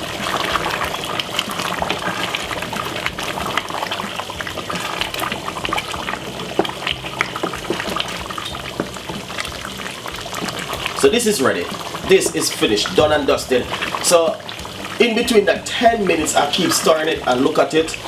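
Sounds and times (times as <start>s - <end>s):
thick sauce bubbling in a pot: 0.0s - 18.0s
wooden spoon stirring: 0.0s - 18.0s.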